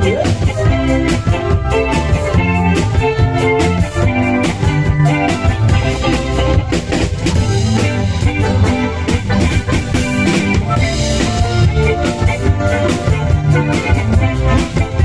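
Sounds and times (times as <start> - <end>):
loud cha-cha dance music: 0.0 - 15.0.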